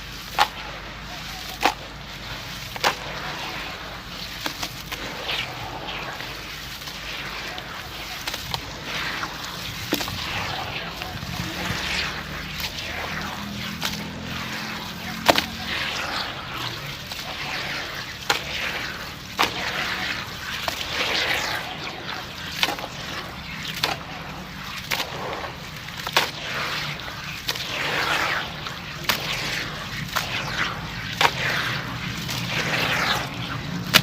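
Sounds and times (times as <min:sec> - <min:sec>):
cement chunks fizzing in water: 0:00.0 - 0:34.0.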